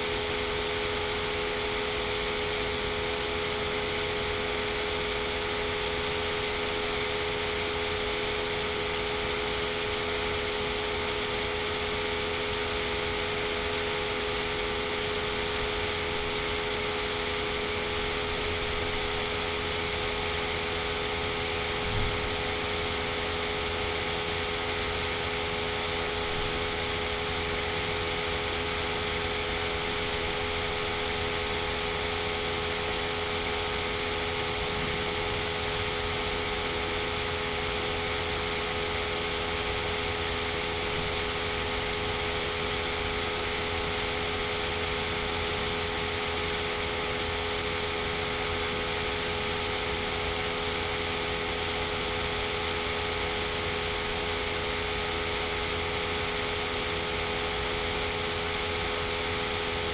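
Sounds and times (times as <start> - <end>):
fan or motor hum and hiss: 0.0 - 59.9.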